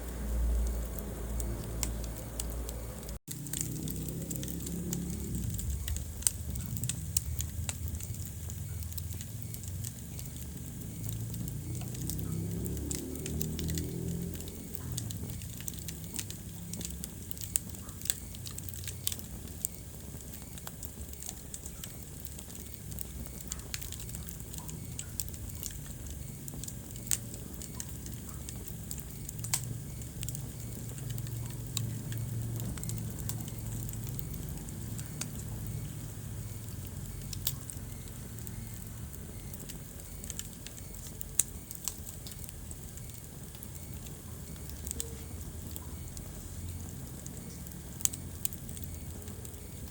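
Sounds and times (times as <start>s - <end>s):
fire crackles and pops: 0.0s - 49.9s
low rumble of flames: 0.0s - 49.9s.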